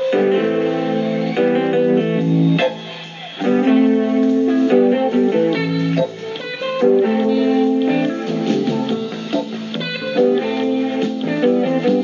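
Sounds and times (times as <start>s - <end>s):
guitar instrumental music: 0.0s - 12.0s.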